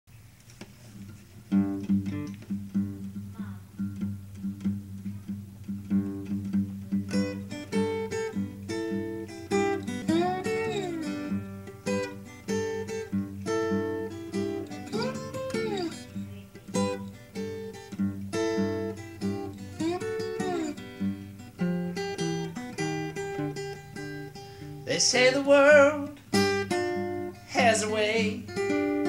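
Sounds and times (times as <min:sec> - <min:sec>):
acoustic guitar picking: 0:00.6 - 0:29.0.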